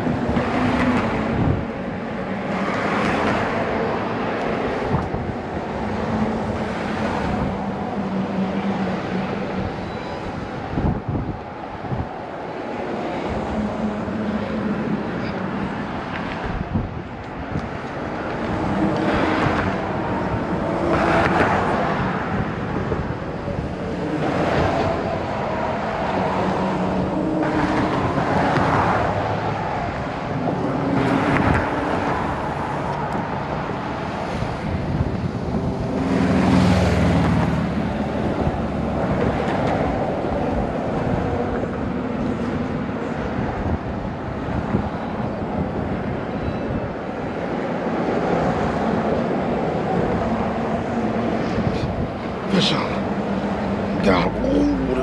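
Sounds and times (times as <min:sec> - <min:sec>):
vehicles passing with tyre hum: 0:00.0 - 0:55.0.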